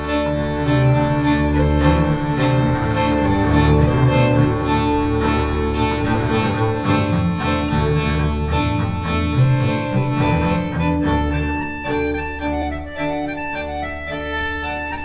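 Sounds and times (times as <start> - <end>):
accordion tones: 0.0 - 15.0
bowed double bass: 0.0 - 15.0
fiddle: 0.0 - 15.0.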